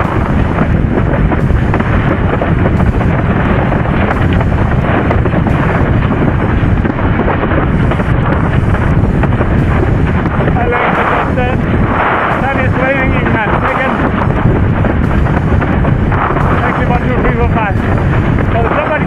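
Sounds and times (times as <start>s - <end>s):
water rushing: 0.0s - 19.0s
wind buffeting microphone: 0.0s - 19.0s.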